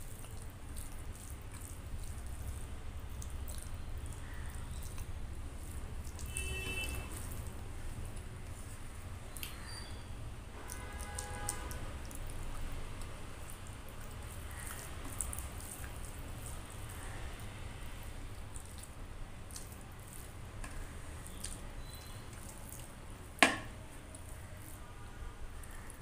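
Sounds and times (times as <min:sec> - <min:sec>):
small sticky clicks: 0:00.0 - 0:10.0, 0:10.6 - 0:17.1, 0:17.9 - 0:23.0
wet chewing: 0:00.0 - 0:26.0.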